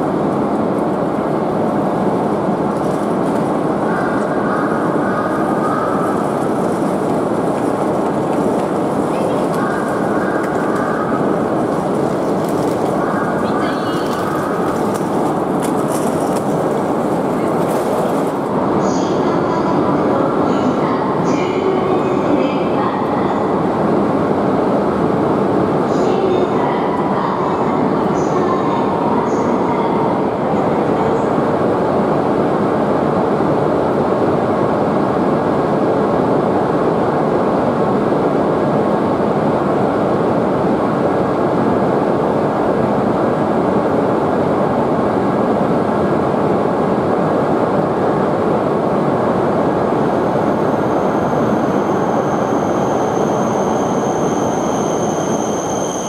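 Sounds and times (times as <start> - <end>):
high whine of braking train: 0.0 - 56.0
train rushing past platform: 0.0 - 56.0.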